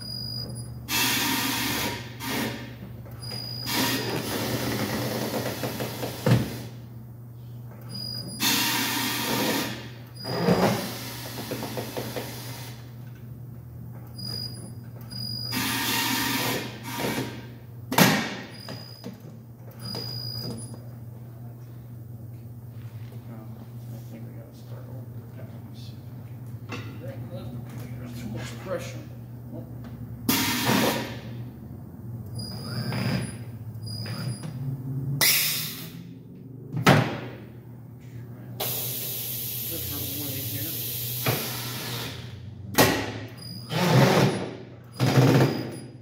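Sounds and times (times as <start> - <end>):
tire machine humming: 0.0 - 21.2, 26.2 - 46.0.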